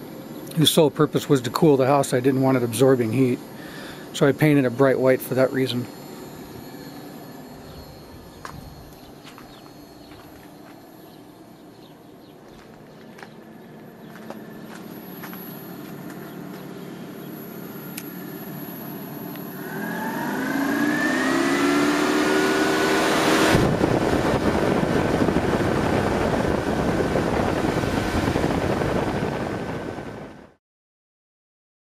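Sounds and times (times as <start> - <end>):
fan whine spinning up: 0.0 - 30.6.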